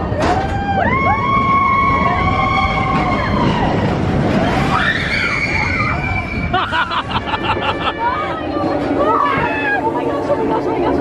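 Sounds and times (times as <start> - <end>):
roller coaster riders screaming: 0.0 - 10.6
rumble of moving ride: 0.0 - 11.0.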